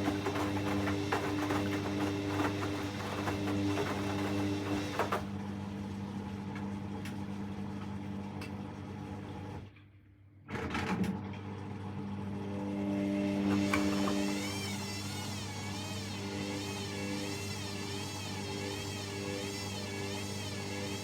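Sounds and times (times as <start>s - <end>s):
washing machine motor humming: 0.0s - 9.7s, 11.1s - 21.0s.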